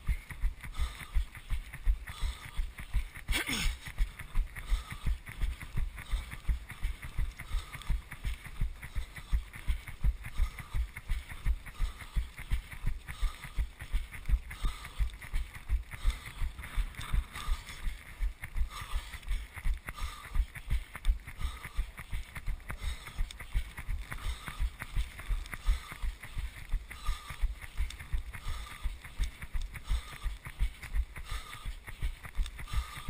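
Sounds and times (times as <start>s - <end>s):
runner's footfalls: 0.0s - 33.0s.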